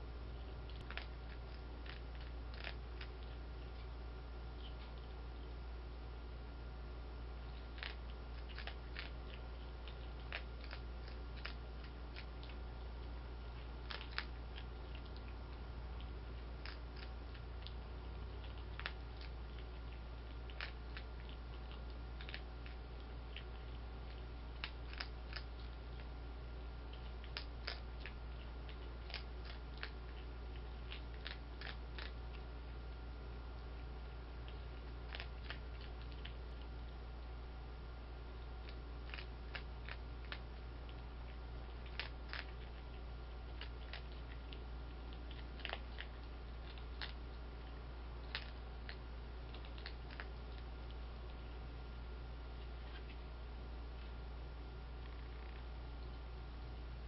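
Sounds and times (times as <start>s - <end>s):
low hum: 0.0s - 57.0s
animal crunching dry kibble: 0.2s - 6.0s, 7.3s - 56.9s.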